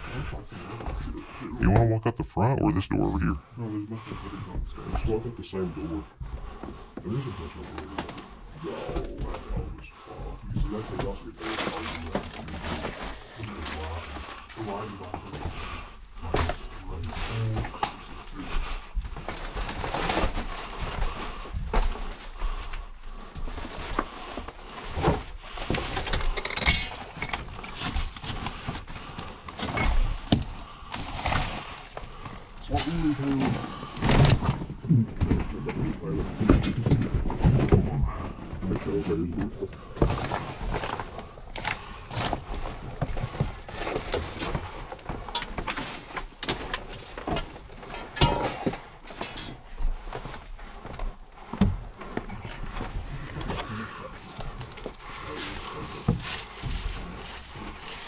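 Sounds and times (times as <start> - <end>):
rustles: 5.9 - 58.0.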